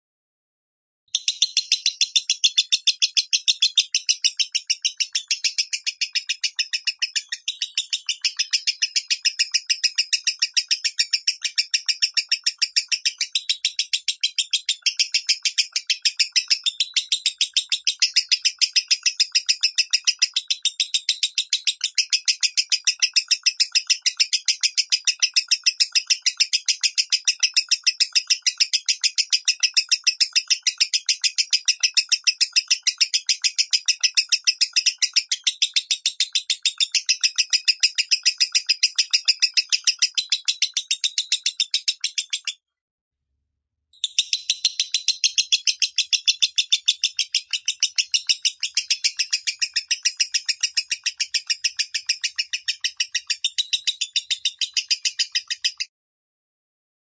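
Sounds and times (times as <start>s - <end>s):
bird rapid high chirps: 1.1s - 42.6s, 44.0s - 55.9s.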